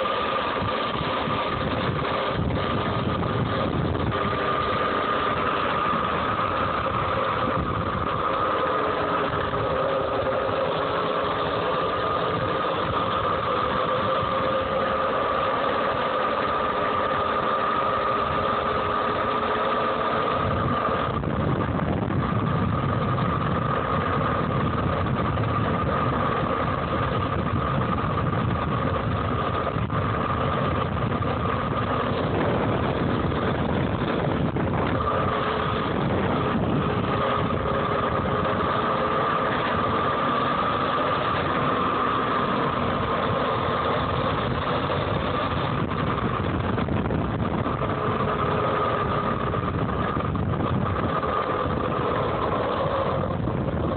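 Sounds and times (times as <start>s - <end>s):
electric dirt bike whining: 0.0s - 53.9s
low rumble: 0.0s - 53.9s.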